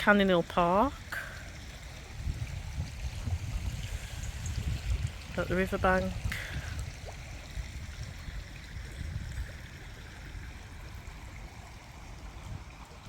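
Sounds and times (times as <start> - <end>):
low uneven rumble: 0.0 - 13.0
river water flowing: 0.0 - 13.0.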